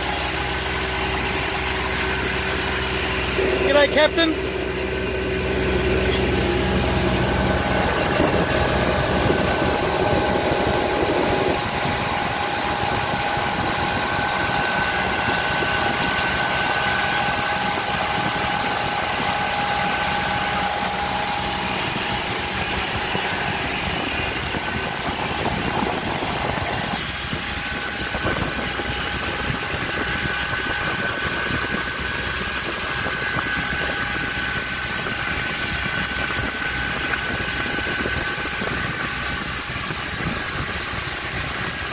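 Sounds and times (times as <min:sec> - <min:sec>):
outboard motor running: 0:00.0 - 0:41.9
wind and water rushing: 0:00.0 - 0:41.9.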